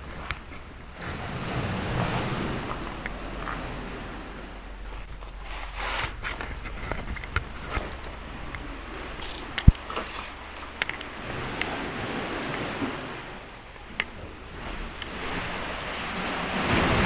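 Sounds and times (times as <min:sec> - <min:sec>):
sea surf washing in a cave: 0:00.0 - 0:17.0.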